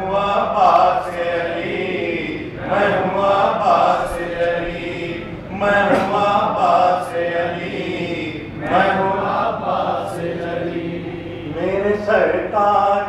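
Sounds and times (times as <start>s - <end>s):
man chanting verse over loudspeakers: 0.0s - 13.0s.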